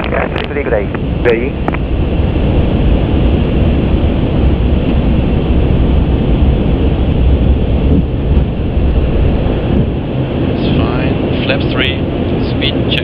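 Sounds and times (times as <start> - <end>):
aircraft cockpit rumble: 0.0 - 13.0.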